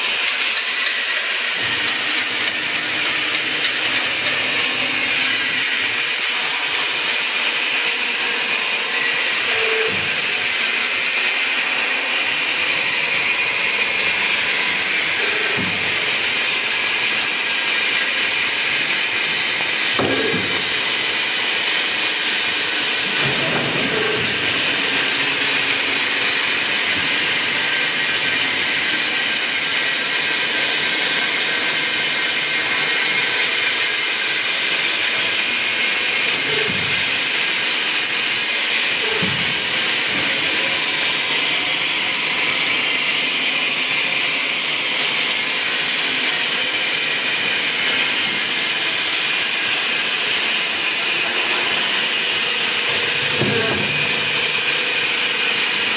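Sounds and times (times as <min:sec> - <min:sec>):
roll forming machine whirring: 0:00.0 - 0:55.9.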